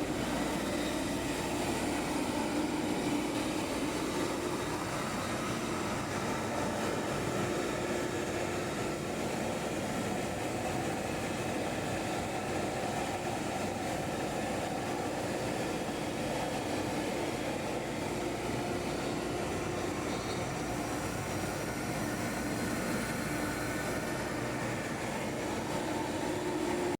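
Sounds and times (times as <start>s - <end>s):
cnc router milling: 0.0s - 26.9s.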